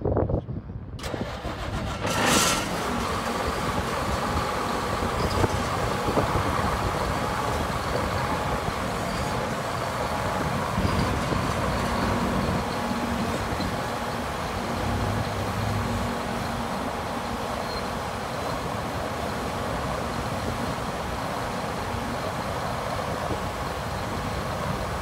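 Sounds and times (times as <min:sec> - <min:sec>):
tractor diesel engine: 0:01.0 - 0:25.0.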